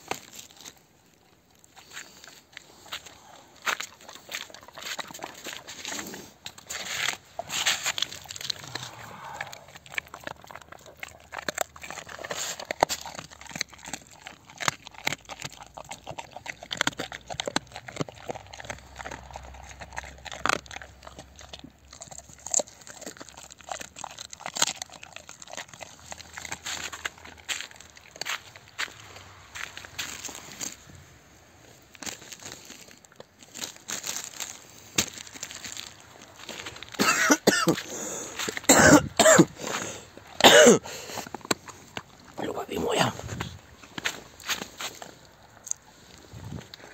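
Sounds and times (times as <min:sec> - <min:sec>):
bones cracking: 0:00.0 - 0:30.9, 0:31.8 - 0:46.9
dog chewing meat and bones: 0:00.0 - 0:46.9.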